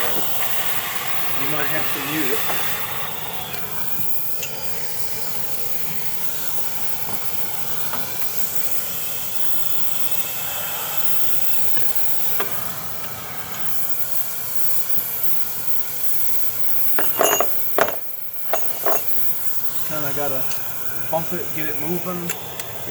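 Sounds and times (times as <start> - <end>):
pneumatic air hammer chattering: 0.0 - 22.9.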